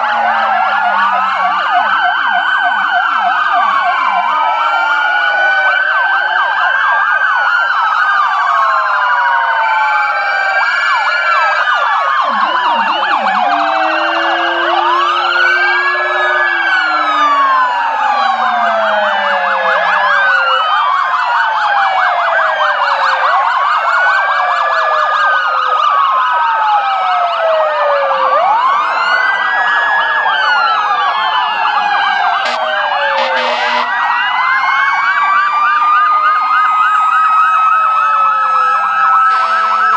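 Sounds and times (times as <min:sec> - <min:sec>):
deeper siren: 0:00.0 - 0:39.9
police sirens wailing: 0:00.0 - 0:39.9.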